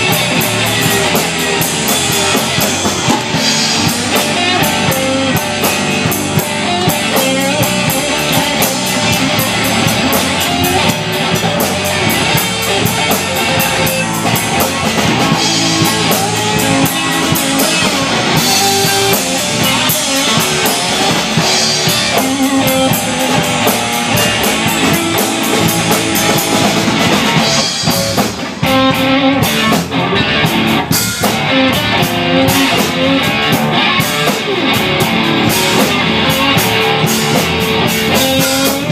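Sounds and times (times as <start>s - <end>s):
bass guitar: 0.0s - 38.9s
drum kit: 0.0s - 38.9s
resonator guitar: 0.0s - 38.9s.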